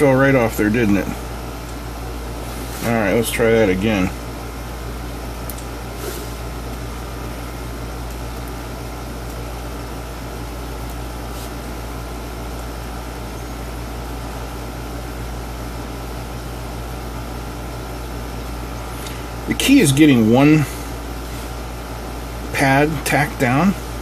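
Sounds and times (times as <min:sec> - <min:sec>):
background hum and hiss: 0:00.0 - 0:24.0.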